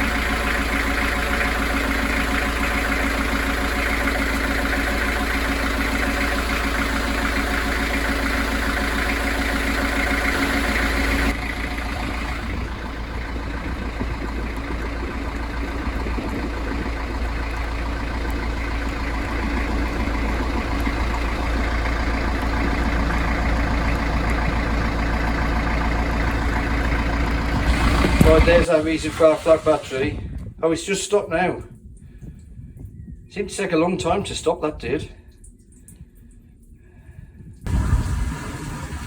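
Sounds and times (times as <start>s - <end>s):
boat diesel engine idling: 0.0s - 32.2s, 33.4s - 39.0s.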